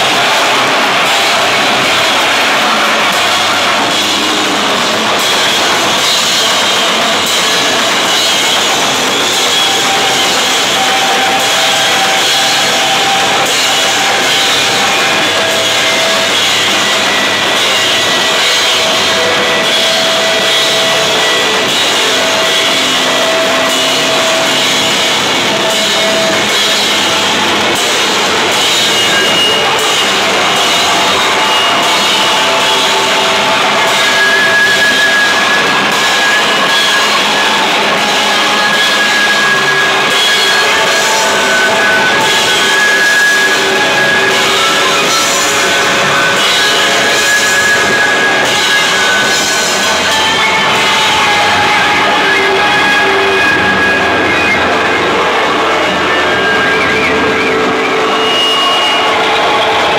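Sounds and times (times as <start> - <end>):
drum kit with cymbals: 0.0 - 59.9
electric guitar: 0.0 - 59.9.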